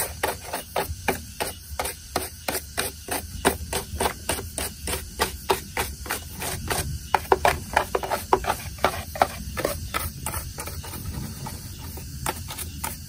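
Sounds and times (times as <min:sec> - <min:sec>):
plastic brush scrubbing plastic: 0:00.0 - 0:13.0.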